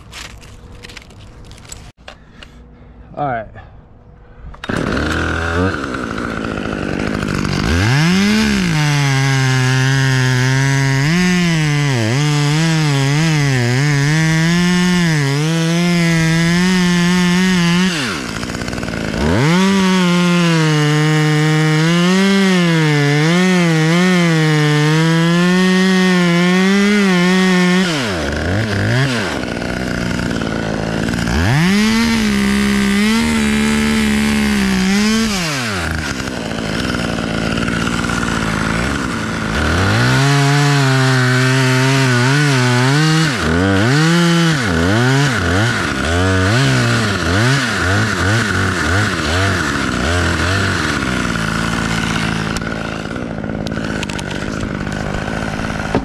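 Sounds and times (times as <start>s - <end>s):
chainsaw revving and cutting wood: 0.0s - 1.9s, 4.6s - 56.0s.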